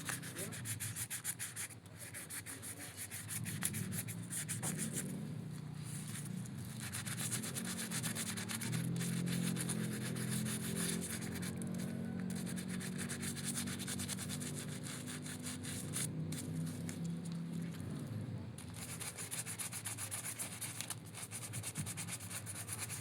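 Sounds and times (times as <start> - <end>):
scrubbing plastic toy: 0.0 - 5.2, 5.8 - 18.0, 18.6 - 23.0.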